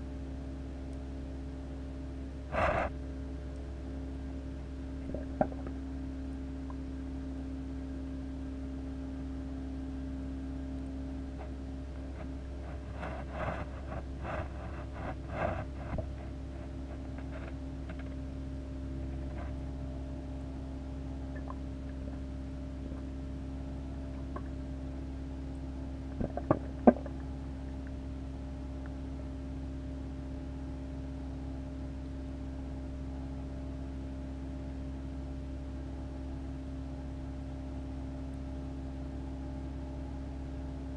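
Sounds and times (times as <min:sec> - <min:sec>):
aquarium pumps humming: 0:00.0 - 0:40.9.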